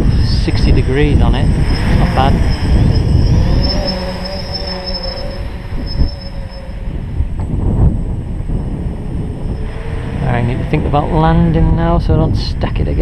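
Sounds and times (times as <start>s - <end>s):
drone motors whining: 0.0s - 12.0s
wind buffeting microphone: 0.0s - 13.0s.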